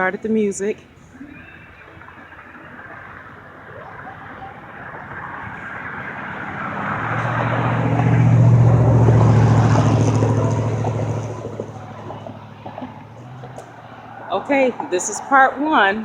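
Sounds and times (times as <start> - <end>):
vehicle driving past: 0.8 - 16.0.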